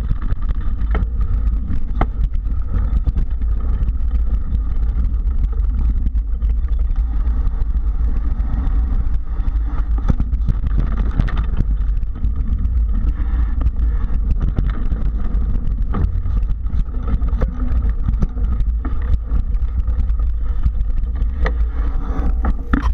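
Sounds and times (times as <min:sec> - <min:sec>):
bike knocks and rattles: 0:00.0 - 0:22.9
wind and tyre rumble: 0:00.0 - 0:22.9.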